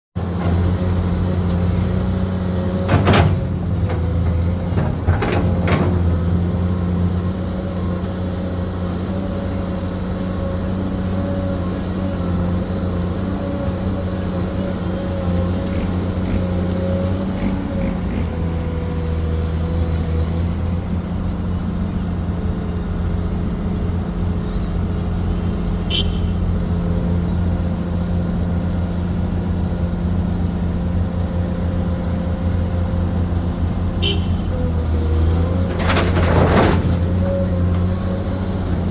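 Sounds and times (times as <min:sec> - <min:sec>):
excavator diesel engine running: 0:00.2 - 0:38.9.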